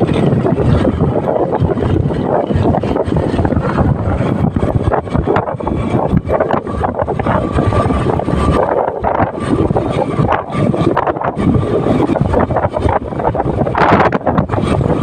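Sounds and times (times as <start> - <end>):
motorcycle running and road noise: 0.0 - 15.0
wind buffeting microphone: 0.0 - 15.0.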